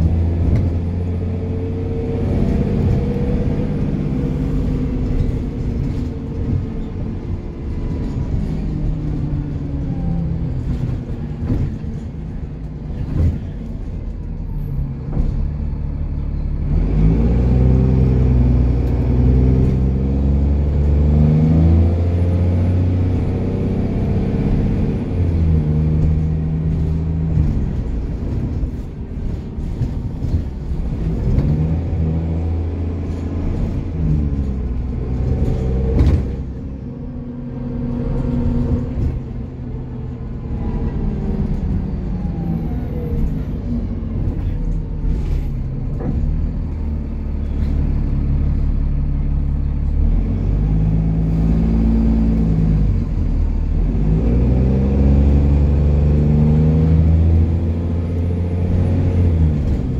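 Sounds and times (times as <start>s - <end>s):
bus diesel engine revving: 0.0s - 59.9s.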